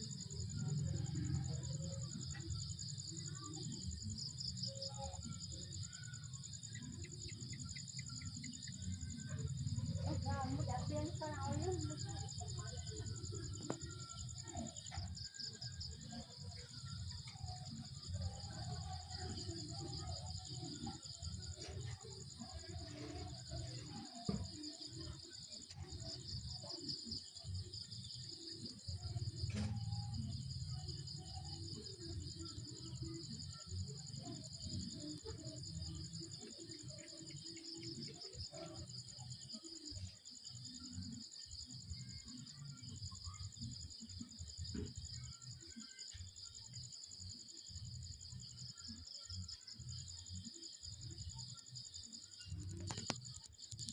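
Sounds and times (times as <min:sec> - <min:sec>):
night insects trilling: 0:00.0 - 0:53.9.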